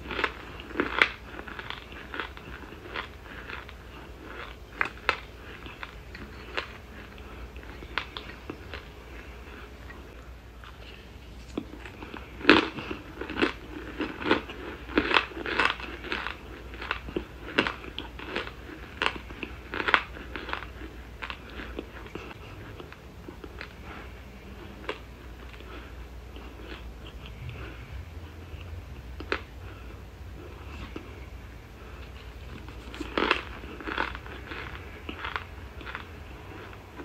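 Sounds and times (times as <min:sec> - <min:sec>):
crisp chewing crunches: 0:00.0 - 0:37.0.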